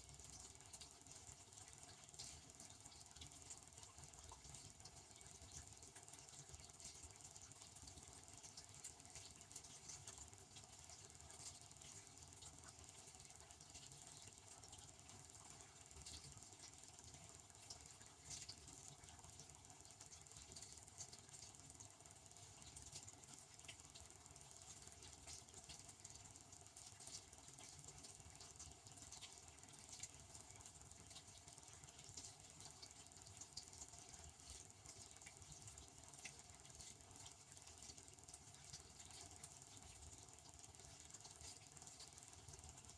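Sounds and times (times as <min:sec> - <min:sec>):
water spraying inside: 0:00.0 - 0:42.9.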